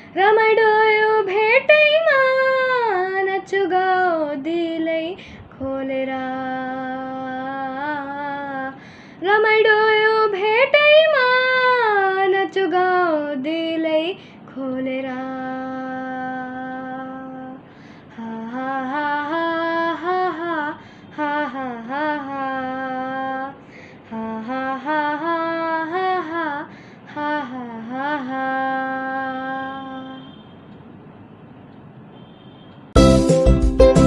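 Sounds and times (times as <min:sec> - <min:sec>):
boy singing without words: 0:00.1 - 0:30.2.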